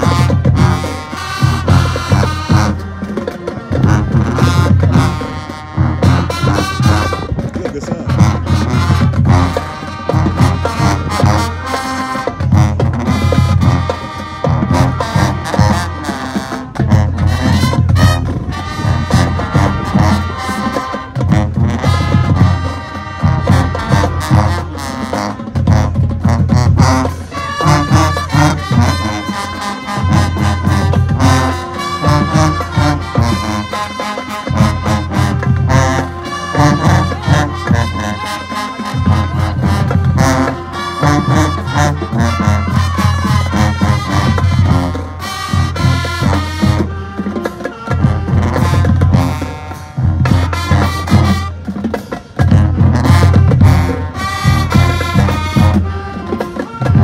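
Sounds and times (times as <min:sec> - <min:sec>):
brass section playing a tune: 0:00.0 - 0:57.0
heavy bass drums and percussion: 0:00.0 - 0:57.0.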